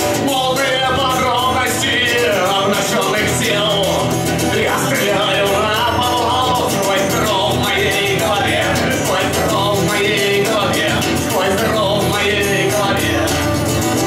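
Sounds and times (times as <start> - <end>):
man singing into microphone: 0.0 - 13.6
acoustic guitar strummed hard: 0.0 - 14.0.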